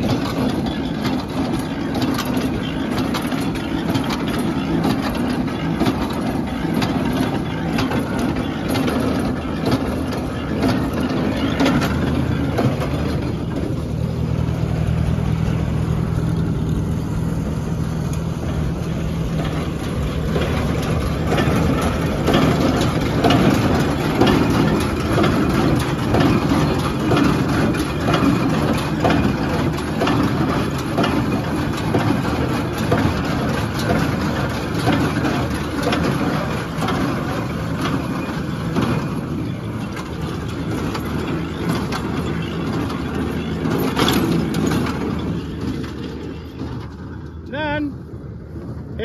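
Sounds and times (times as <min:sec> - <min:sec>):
baler clattering: 0:00.0 - 0:49.0
tractor engine drone: 0:00.0 - 0:49.0.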